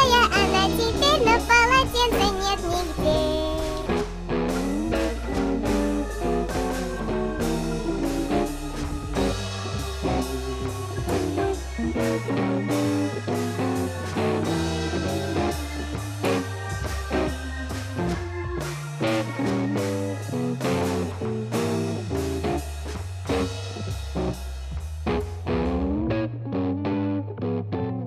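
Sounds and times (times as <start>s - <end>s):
plucked guitar notes: 0.0s - 22.6s, 25.1s - 28.0s
bass line and beat: 0.0s - 26.4s.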